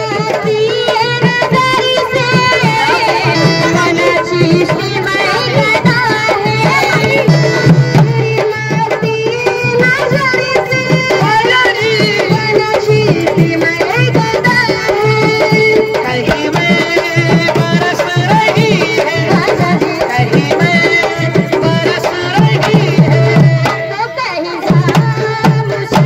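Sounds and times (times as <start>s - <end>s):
barrel drums playing brisk beat: 0.0s - 26.0s.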